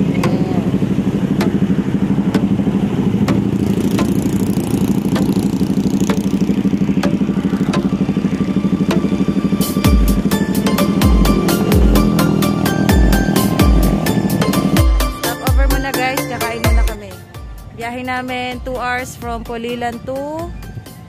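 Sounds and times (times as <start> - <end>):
background music: 0.0 - 21.0
scooter engine running: 0.0 - 21.0.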